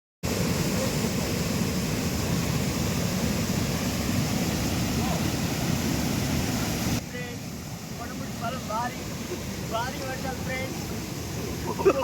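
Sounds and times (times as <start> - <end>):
water gushing through sluice gates: 0.3 - 12.0.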